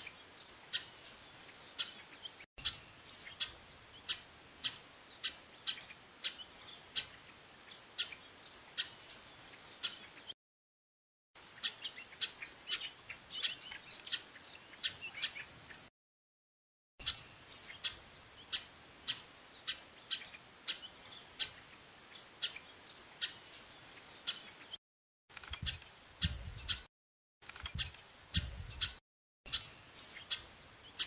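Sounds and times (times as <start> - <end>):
blackbird call notes: 0.0 - 10.2, 11.6 - 15.8, 17.0 - 24.6, 25.5 - 26.9, 27.6 - 31.0.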